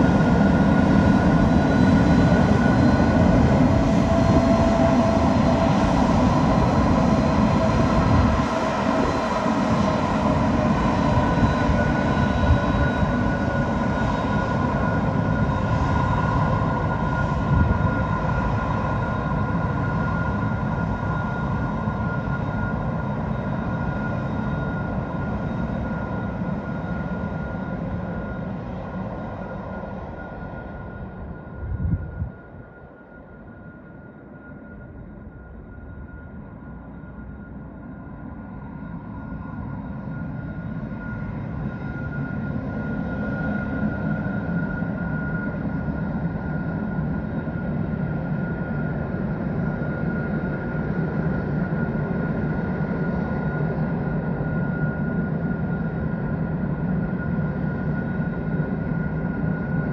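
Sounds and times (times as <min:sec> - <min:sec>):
airliner engines whining: 0:00.0 - 0:59.9.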